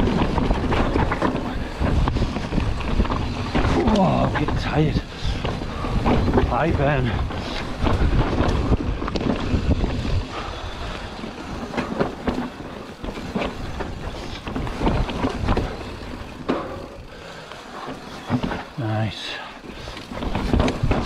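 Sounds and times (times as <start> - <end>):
wind buffeting microphone: 0.0 - 17.1, 19.7 - 21.0
bike clattering over bumps: 0.0 - 18.8, 19.4 - 21.0
bike tyres rolling over dirt: 0.0 - 21.0.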